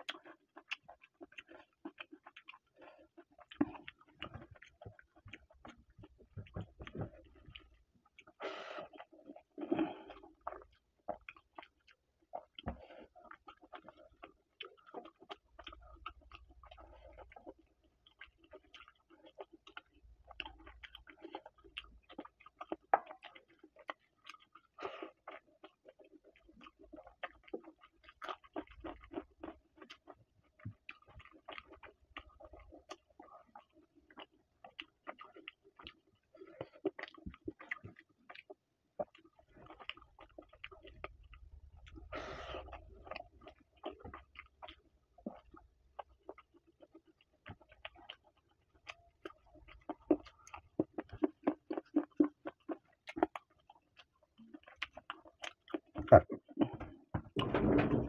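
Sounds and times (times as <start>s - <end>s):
man chewing and lip-smacking: 0.0s - 58.0s.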